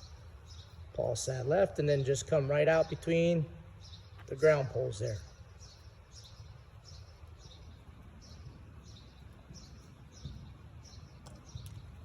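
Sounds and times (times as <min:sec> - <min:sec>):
bird chirping: 0:00.0 - 0:12.0
low outdoor rumble: 0:00.0 - 0:12.0.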